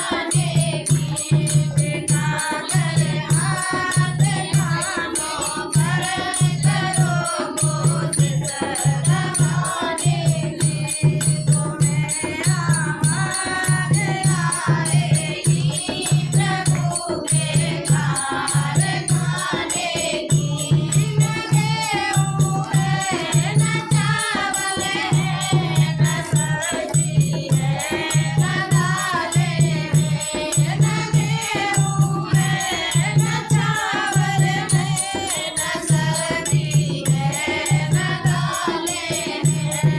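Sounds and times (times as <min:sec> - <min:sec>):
rattling percussion: 0:00.0 - 0:39.9
women singing together: 0:00.0 - 0:39.9.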